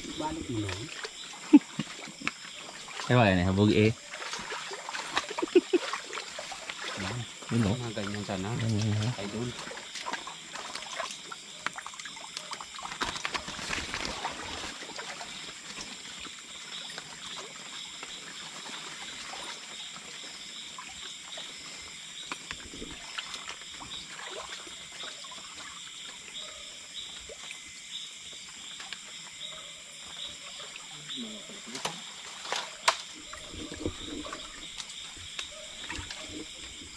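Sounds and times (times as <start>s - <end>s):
water trickling and splashing: 0.0s - 36.9s.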